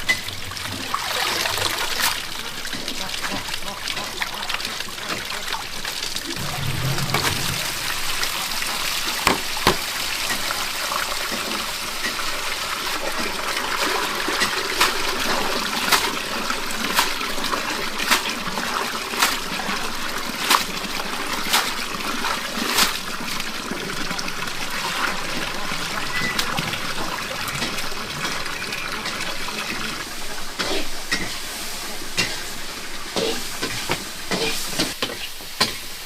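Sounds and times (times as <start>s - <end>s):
water trickling and splashing: 0.0s - 35.0s.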